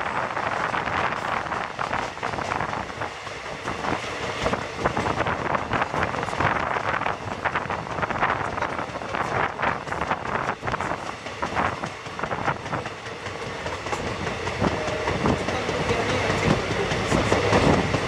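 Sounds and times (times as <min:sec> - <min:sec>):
train running noise: 0:00.0 - 0:18.0.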